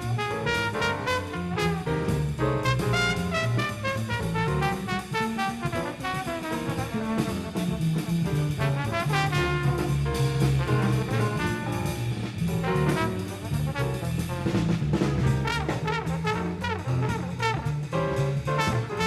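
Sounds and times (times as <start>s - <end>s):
jazz trombone solo: 0.0s - 19.0s.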